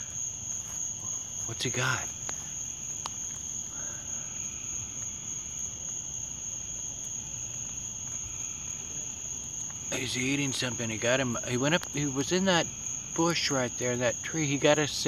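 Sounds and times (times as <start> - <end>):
night insects droning: 0.0 - 15.0.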